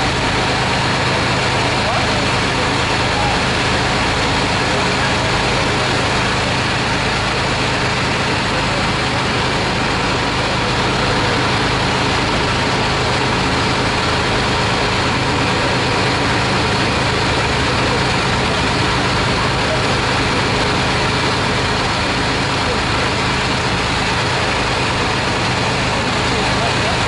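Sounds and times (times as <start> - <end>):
diesel engine droning: 0.0 - 27.0.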